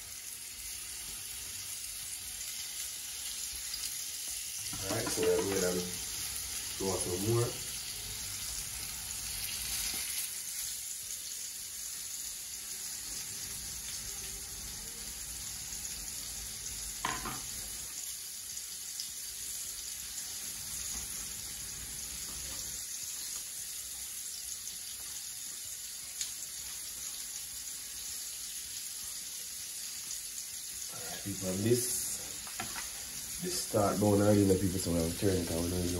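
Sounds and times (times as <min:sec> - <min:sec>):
deep-frying sizzle: 0:00.0 - 0:35.9.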